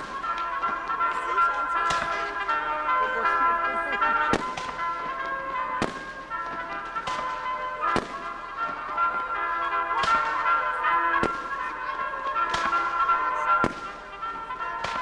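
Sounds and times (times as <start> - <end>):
fireworks bursting with sharp bangs: 0.0 - 15.0
music with held notes: 0.0 - 15.0.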